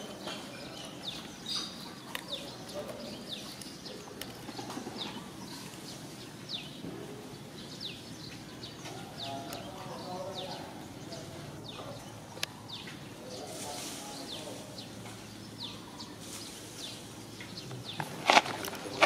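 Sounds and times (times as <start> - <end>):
bird chirping: 0.0 - 19.0
outdoor background noise: 0.0 - 19.0.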